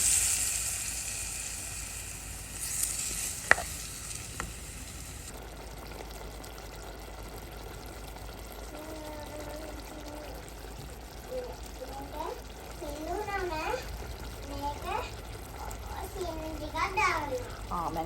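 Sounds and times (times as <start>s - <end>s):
curry sizzling and bubbling in pot: 0.0s - 18.0s.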